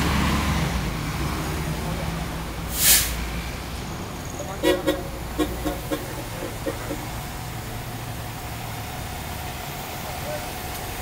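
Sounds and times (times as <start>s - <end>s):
low rumble of engines: 0.0s - 11.0s.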